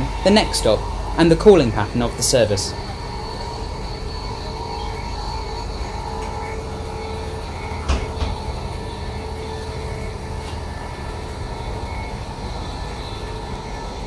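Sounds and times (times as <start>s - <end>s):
electric train running noise: 0.0s - 14.0s.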